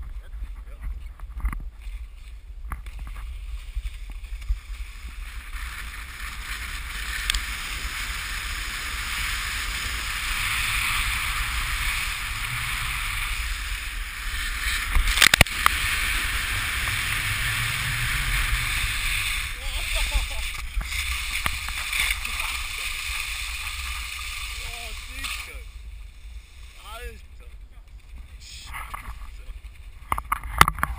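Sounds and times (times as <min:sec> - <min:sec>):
wind on microphone: 0:00.0 - 0:30.9
sliding over snow hiss: 0:01.8 - 0:30.0.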